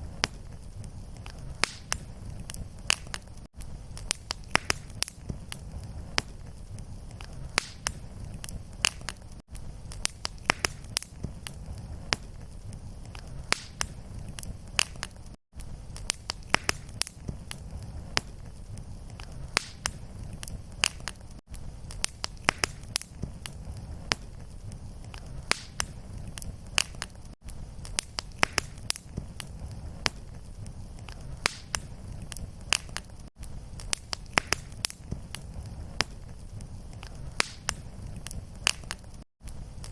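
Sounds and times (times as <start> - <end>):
fire low rumble: 0.0 - 39.9
fireplace fire crackling: 0.0 - 39.9.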